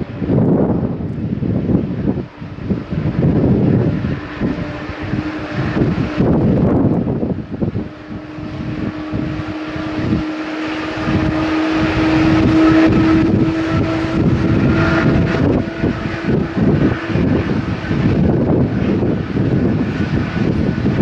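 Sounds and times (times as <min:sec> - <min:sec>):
jet engines droning: 0:00.0 - 0:21.0
wind buffeting microphone: 0:00.0 - 0:21.0.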